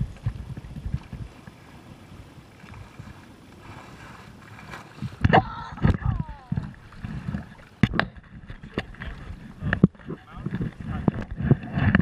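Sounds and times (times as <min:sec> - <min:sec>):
water rushing: 0:00.0 - 0:12.0
wind buffeting microphone: 0:00.0 - 0:12.0.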